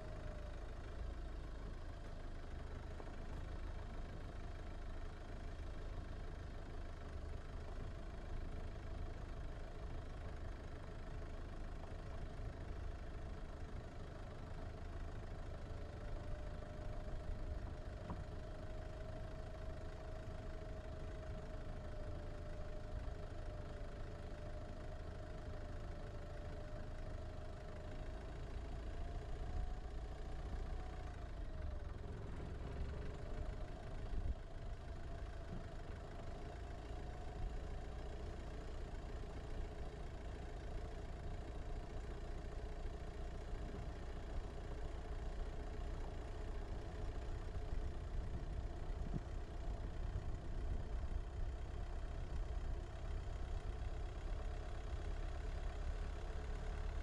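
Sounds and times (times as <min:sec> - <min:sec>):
car driving on dirt road: 0:00.0 - 0:57.0.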